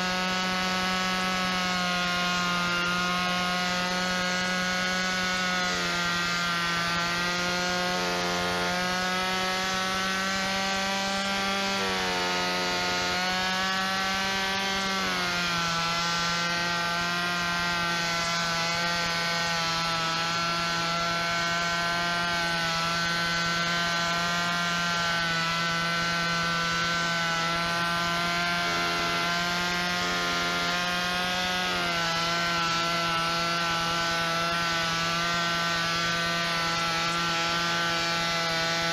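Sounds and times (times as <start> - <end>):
chainsaw cutting pumpkin: 0.0 - 38.9.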